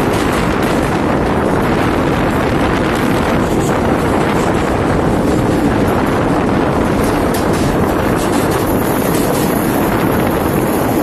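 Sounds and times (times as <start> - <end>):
train wheels rumbling in tunnel: 0.0 - 11.0
wind noise on microphone: 0.0 - 11.0.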